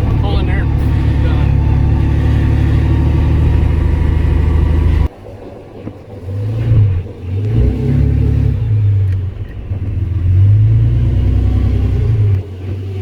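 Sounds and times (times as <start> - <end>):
truck engine revving: 0.0 - 5.1, 6.1 - 13.0.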